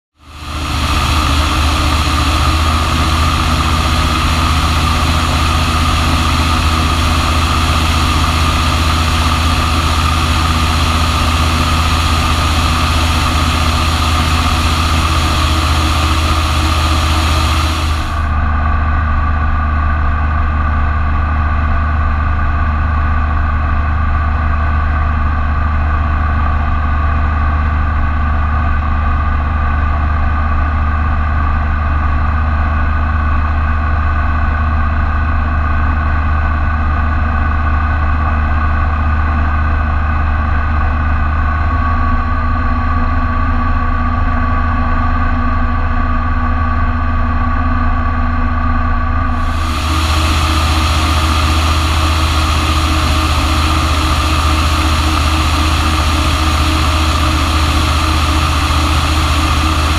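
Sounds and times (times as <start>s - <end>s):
aircraft engine drone: 0.2s - 59.9s.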